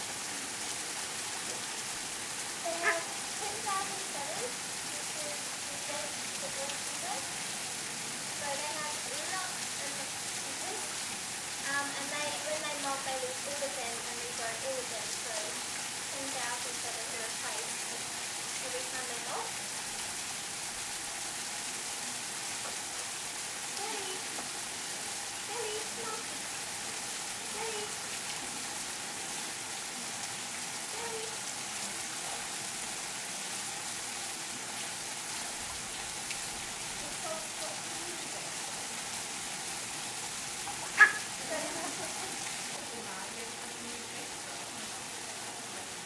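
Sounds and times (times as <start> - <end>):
water spray hissing onto pool: 0.0 - 46.0.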